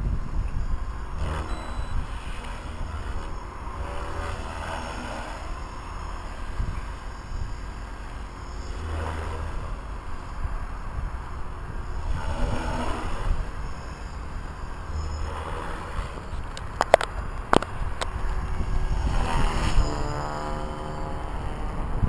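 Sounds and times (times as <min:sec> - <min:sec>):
helicopter rotor whooshing: 0:00.0 - 0:22.0
wind rumble on microphone: 0:00.0 - 0:22.0.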